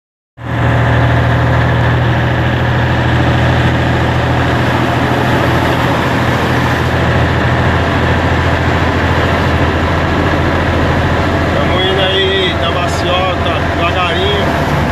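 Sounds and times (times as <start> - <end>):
truck diesel engine rumbling: 0.4 - 14.9.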